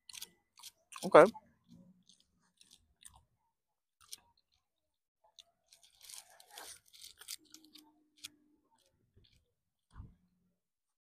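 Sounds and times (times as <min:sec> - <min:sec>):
chewing: 0:00.0 - 0:03.4, 0:04.0 - 0:10.0.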